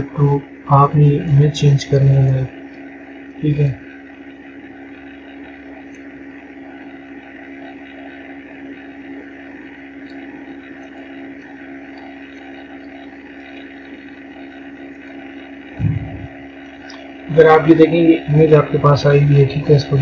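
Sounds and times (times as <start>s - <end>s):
machine hum with steady tone: 0.0s - 20.0s.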